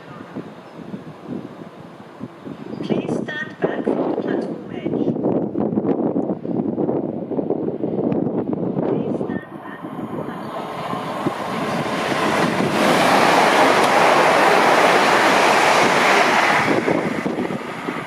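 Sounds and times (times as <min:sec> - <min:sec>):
train passing at speed: 0:00.0 - 0:04.6, 0:05.2 - 0:18.0.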